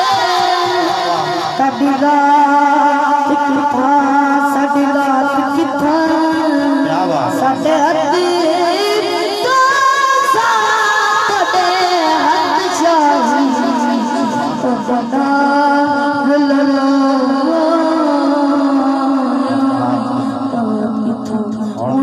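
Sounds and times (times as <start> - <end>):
boy singing into a microphone: 0.0 - 22.0.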